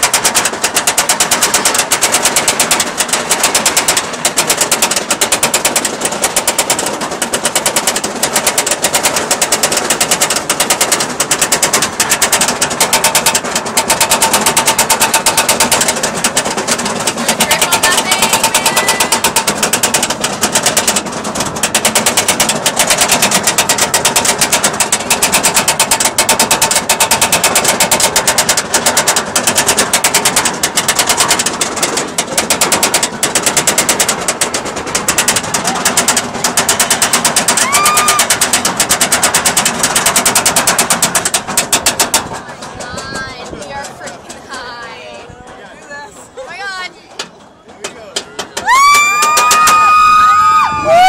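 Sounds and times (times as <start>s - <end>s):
roller coaster lift chain clacking: 0.0s - 51.0s.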